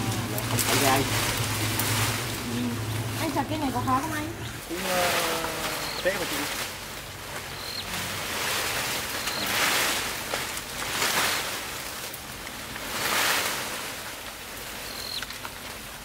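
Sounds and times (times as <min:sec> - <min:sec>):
leaves and grass rustling: 0:00.0 - 0:16.0.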